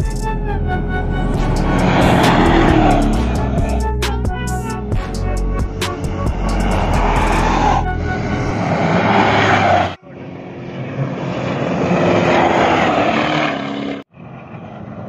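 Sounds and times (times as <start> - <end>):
trucks racing past: 0.7 - 4.2, 5.4 - 15.0.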